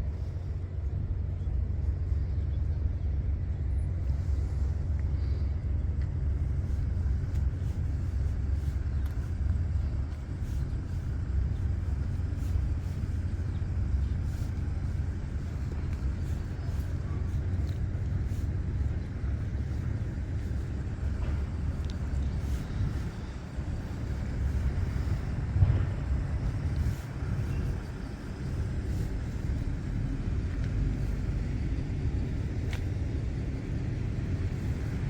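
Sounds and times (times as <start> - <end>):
combine harvester rumbling: 0.0 - 35.0.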